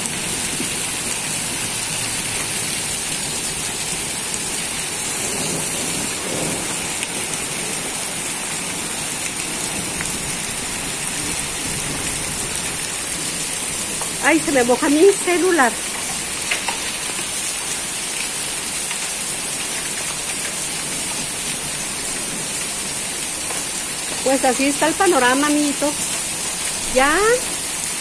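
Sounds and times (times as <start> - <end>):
heavy rain on concrete: 0.0 - 28.0.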